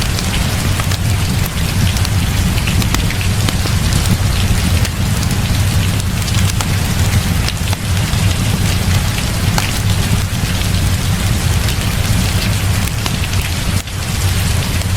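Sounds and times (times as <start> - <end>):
heavy rain: 0.0 - 14.9
sharp ticks and crackles: 0.0 - 14.9.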